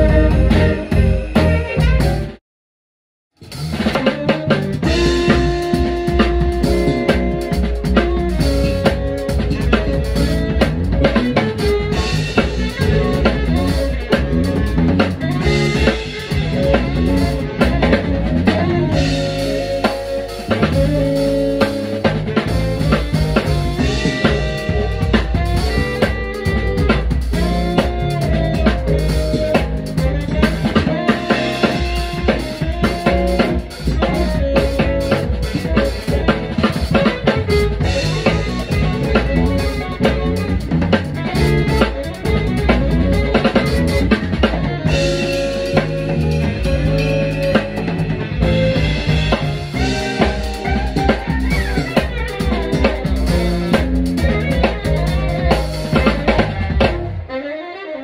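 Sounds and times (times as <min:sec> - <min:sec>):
live band playing instrumental: 0:00.0 - 0:02.4, 0:03.4 - 0:58.0
snare and bass drum hits: 0:03.4 - 0:57.1.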